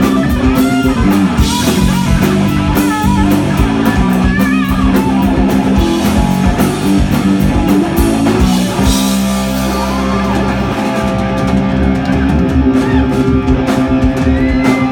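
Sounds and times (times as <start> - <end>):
distorted electric guitar: 0.0 - 14.9
drum kit: 0.0 - 14.9
electric bass: 0.0 - 14.9.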